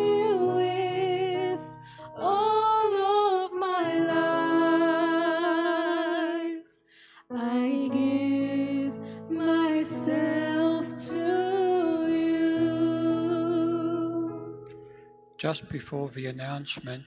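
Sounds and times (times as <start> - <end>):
person singing a hymn: 0.0 - 6.6, 7.3 - 14.5.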